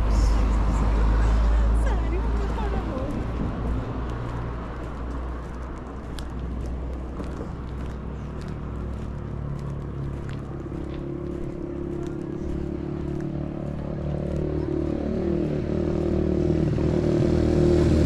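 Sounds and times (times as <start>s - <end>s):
steady low rumble: 0.0s - 16.1s
footsteps on asphalt: 0.0s - 16.3s
vehicle engine hum: 0.0s - 18.0s.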